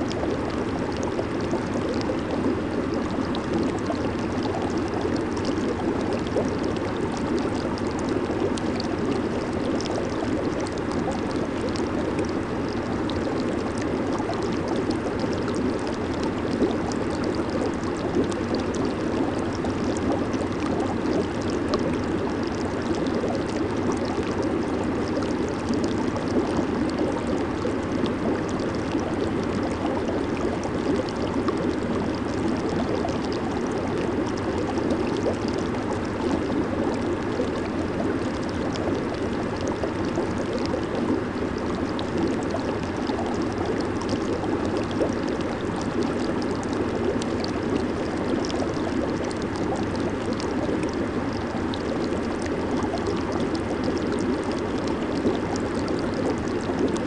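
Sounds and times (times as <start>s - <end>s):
hot tub jets bubbling: 0.0s - 57.0s.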